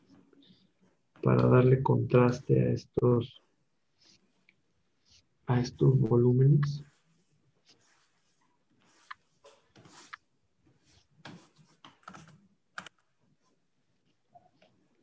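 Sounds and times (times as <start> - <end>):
stylus scratching and tapping screen: 0.0 - 15.0.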